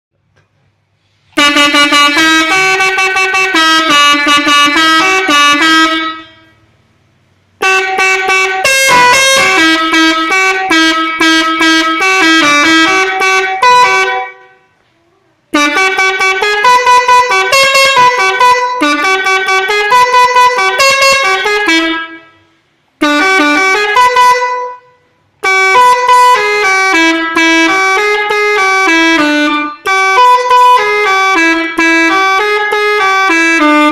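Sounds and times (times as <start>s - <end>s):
musical air horn playing tunes: 1.1s - 6.6s, 7.6s - 14.7s, 15.5s - 33.9s.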